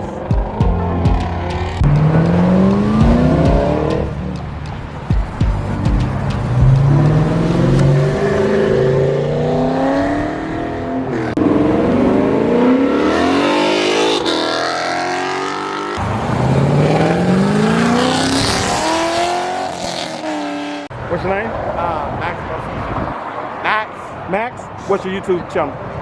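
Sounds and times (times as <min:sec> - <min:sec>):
cars accelerating hard: 0:00.0 - 0:21.0.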